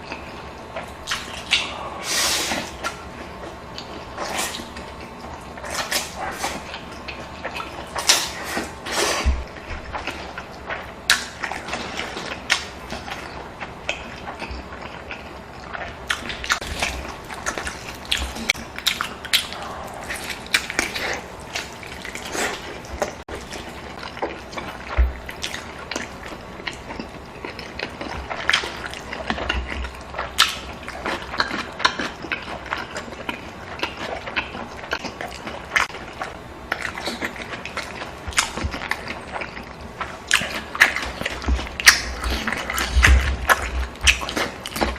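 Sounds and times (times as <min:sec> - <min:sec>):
wet chewing and smacking: 0:00.0 - 0:01.8, 0:02.7 - 0:44.9.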